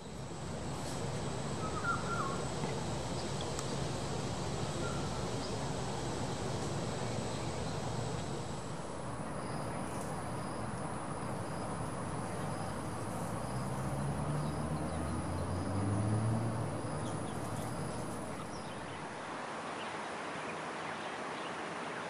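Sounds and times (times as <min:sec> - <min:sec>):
distant vehicle engine hum: 0:00.0 - 0:19.2
steady hiss: 0:00.0 - 0:19.2.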